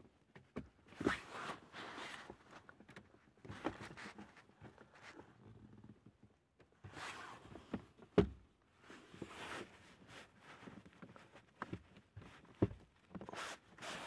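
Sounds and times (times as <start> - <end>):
soft rustling and scraping: 0.5 - 6.2, 6.8 - 8.0, 8.7 - 14.0.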